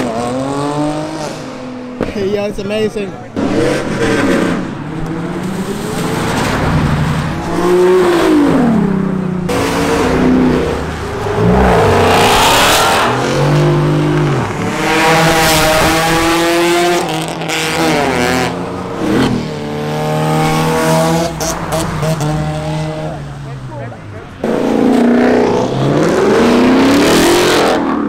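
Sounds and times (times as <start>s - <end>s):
cars accelerating hard: 0.0s - 2.1s, 3.3s - 28.0s.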